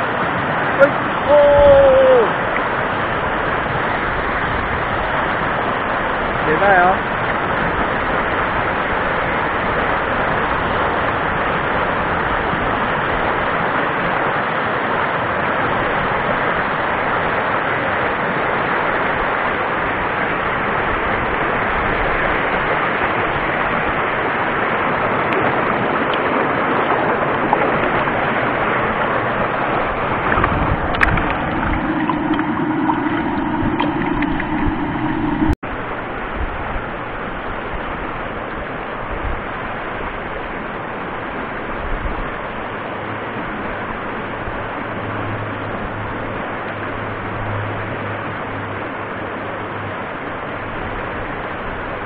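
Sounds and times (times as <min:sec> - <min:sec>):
stream rapids rushing: 0:00.0 - 0:52.0.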